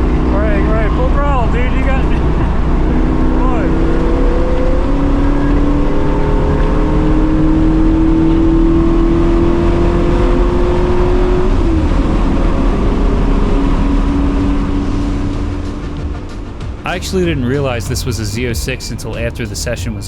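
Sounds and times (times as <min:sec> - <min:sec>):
car engine at full throttle: 0:00.0 - 0:20.0.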